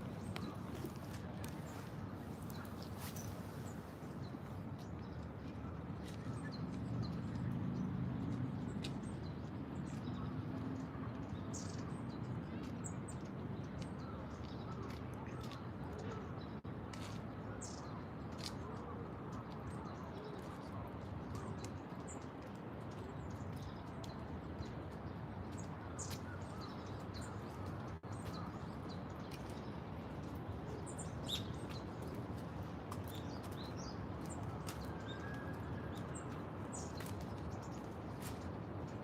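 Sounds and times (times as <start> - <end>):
low park ambience hum: 0.0 - 39.0.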